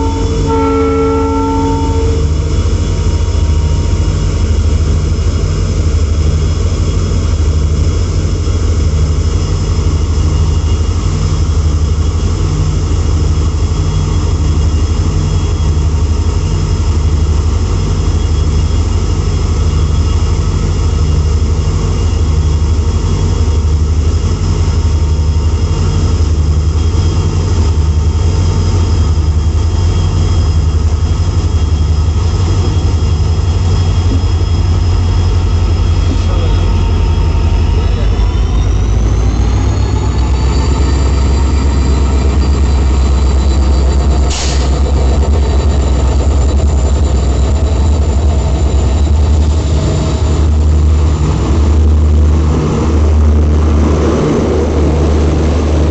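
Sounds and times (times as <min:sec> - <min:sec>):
high whine: 0:00.0 - 0:55.9
locomotive engine pulsing: 0:00.0 - 0:55.9.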